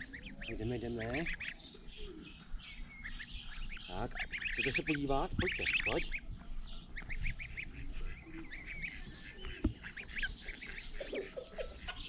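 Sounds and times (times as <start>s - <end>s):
goslings peeping: 0.0s - 12.0s.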